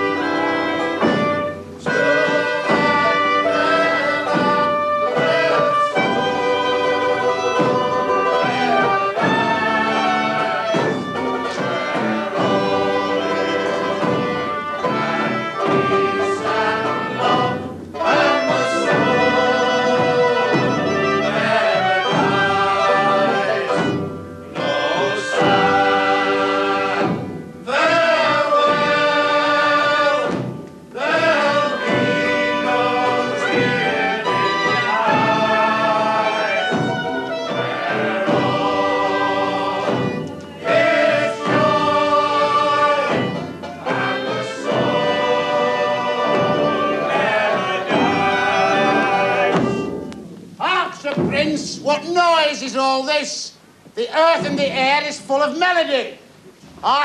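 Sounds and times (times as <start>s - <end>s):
banjo: 0.0s - 50.1s
voices singing: 0.0s - 57.0s.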